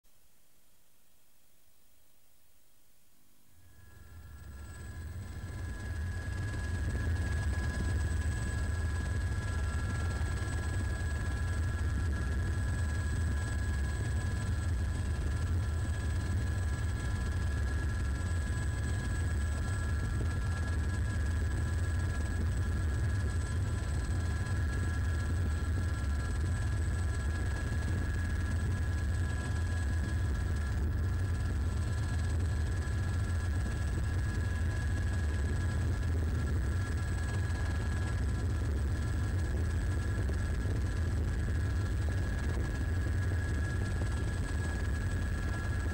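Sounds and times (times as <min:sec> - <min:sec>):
helicopter engine and rotor: 0:03.7 - 0:45.9.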